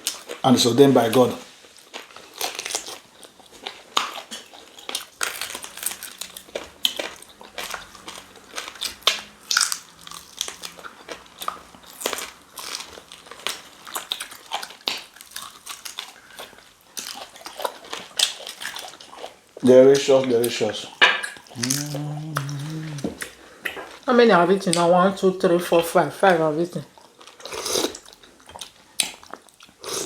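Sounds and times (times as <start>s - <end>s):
chewing with wet mouth clicks: 1.8s - 24.1s, 26.9s - 30.0s.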